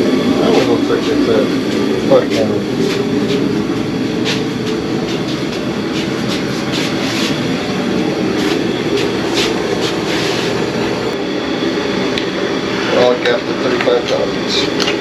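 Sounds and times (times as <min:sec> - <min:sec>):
heater running: 0:00.0 - 0:15.0.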